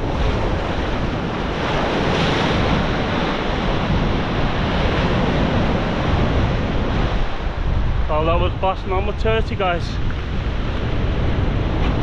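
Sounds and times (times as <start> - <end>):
waves breaking on shore: 0.0 - 12.0
wind rumbling on microphone: 0.0 - 12.0.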